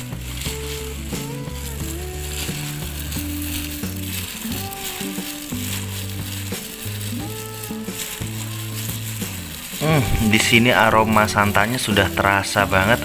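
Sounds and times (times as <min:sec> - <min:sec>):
background music of held notes: 0:00.0 - 0:13.0
plastic bag crinkling while kneading: 0:00.0 - 0:13.0.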